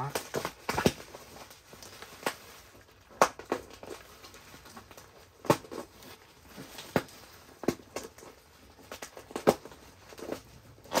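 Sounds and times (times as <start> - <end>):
packaging clicks and knocks: 0.0 - 11.0.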